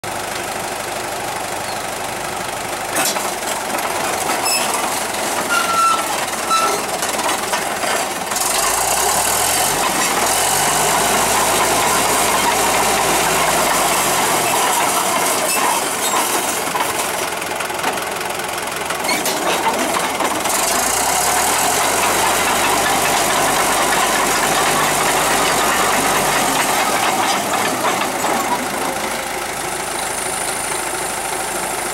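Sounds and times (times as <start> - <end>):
diesel engine revving: 1.2 - 31.9
steel tracks clanking: 2.9 - 18.0, 18.9 - 30.8.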